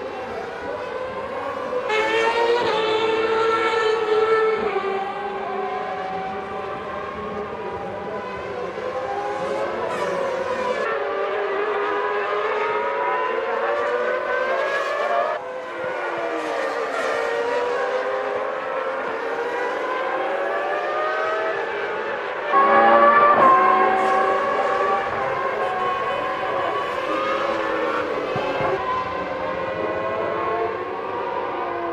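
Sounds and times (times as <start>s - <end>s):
racing car engines at high revs: 0.0s - 31.9s.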